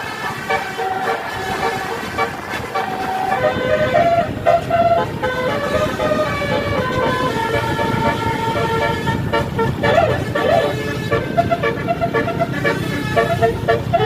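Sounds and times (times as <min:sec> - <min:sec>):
bus engine and road noise: 0:00.0 - 0:14.0
musical air horn: 0:00.0 - 0:14.0.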